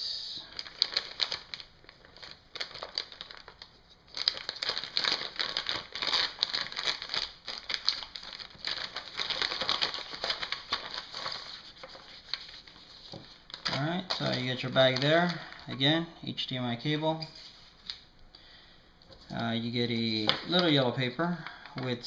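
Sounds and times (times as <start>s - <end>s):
plastic bag crinkling: 0.4s - 16.1s, 19.1s - 22.0s.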